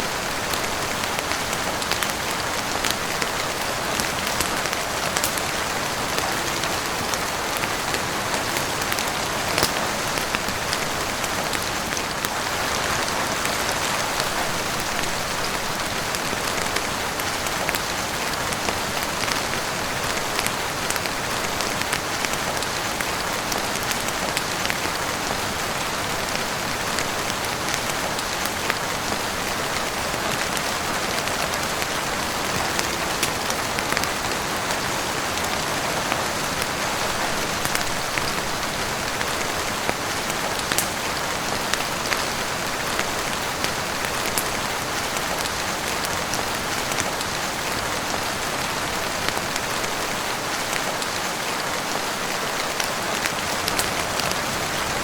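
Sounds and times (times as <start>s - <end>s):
heavy rain on roof and windows: 0.0s - 55.0s.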